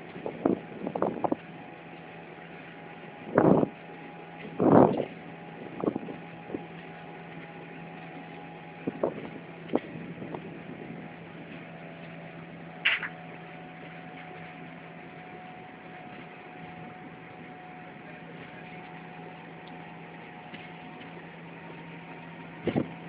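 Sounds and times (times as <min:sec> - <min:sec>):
train running on track: 0:00.0 - 0:23.0.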